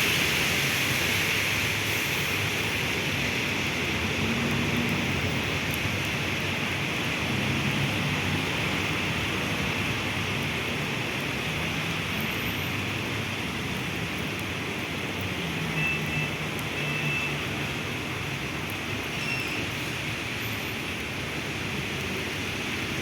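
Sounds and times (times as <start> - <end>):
heavy rain: 0.0 - 23.0
low rumble of city traffic: 0.0 - 23.0.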